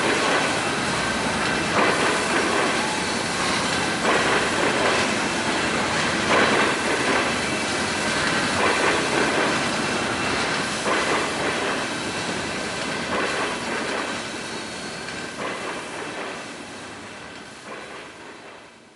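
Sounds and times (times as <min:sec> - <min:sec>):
train wheels knocking over rail joints: 0:01.2 - 0:14.2, 0:15.0 - 0:16.5, 0:17.3 - 0:18.7.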